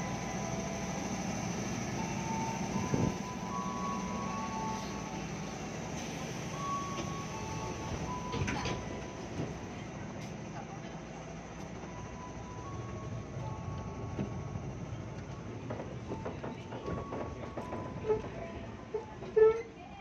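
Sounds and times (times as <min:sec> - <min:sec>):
station rumble and hiss: 0:00.0 - 0:20.0.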